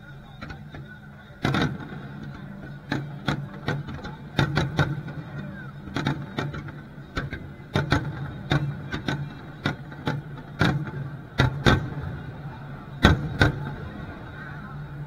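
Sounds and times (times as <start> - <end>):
firework shells booming: 1.4 - 14.3.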